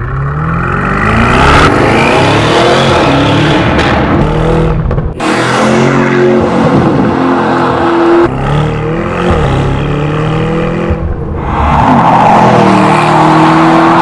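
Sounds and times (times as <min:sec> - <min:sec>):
car engine and exhaust revving: 0:00.0 - 0:14.0.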